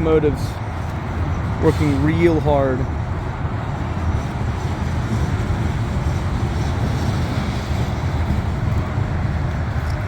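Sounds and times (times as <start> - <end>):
distant diesel locomotives working: 0.0 - 10.0
train cars rumbling on rails: 0.0 - 10.0.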